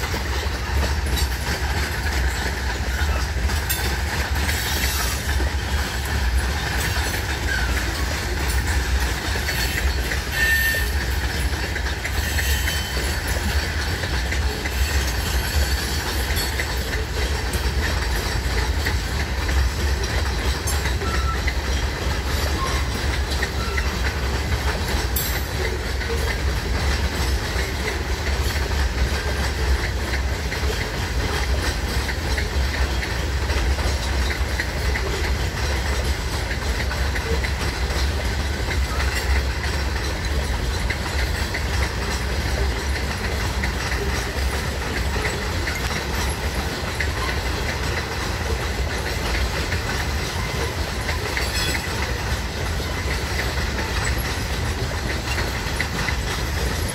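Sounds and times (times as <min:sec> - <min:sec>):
freight train rumbling past: 0:00.0 - 0:56.9
wheels clicking on rails: 0:00.0 - 0:56.9.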